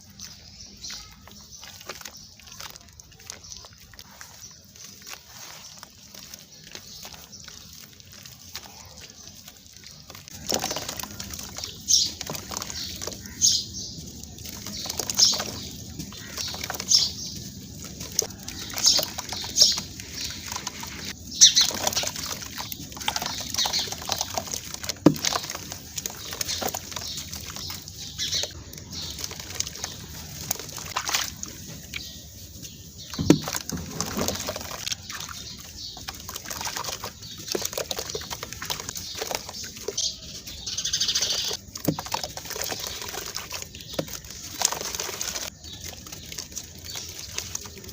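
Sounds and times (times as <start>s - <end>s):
dry sand-cement crumbling: 0.0s - 47.9s.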